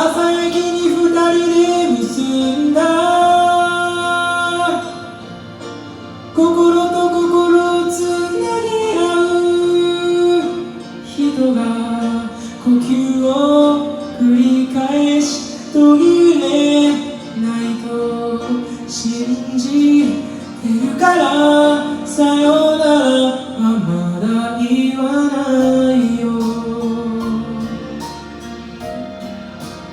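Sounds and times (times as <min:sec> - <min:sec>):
pop ballad backing music: 0:00.0 - 0:29.9.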